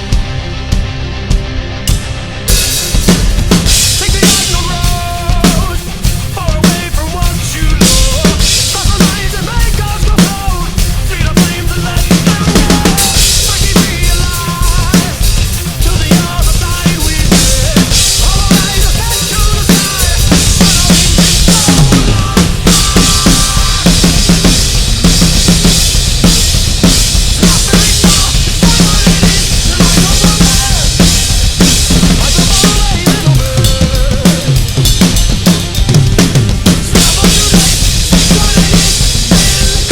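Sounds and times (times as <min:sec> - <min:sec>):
bass drum: 0:00.0 - 0:39.9
recorded rock song with guitars: 0:00.0 - 0:39.9.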